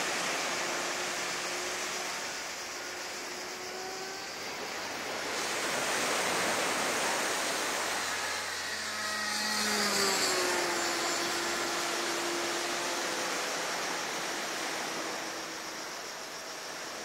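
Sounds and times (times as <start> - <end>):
model plane engine overhead: 0.0 - 17.0
surf rushing: 0.0 - 17.0.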